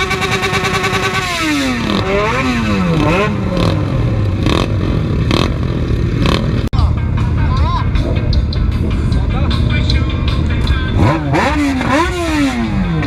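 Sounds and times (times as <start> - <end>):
motorcycle engine revving: 0.0 - 6.7, 8.0 - 13.0.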